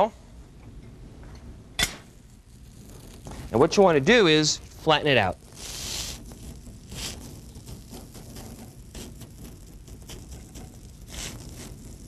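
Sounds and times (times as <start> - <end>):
batter sizzling on a griddle: 1.9 - 12.0.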